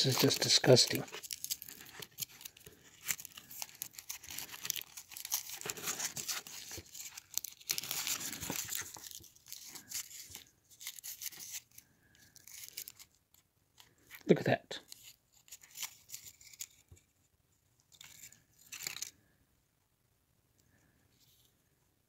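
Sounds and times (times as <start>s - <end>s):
foil wrapper crinkling and tearing: 0.0s - 14.3s, 14.9s - 17.1s, 17.9s - 19.2s.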